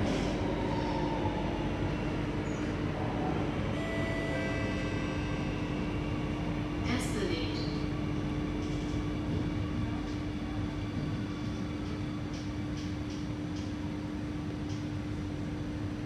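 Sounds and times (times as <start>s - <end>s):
train traction hum: 0.0s - 16.0s
train wheels rumbling on rail: 0.0s - 16.0s.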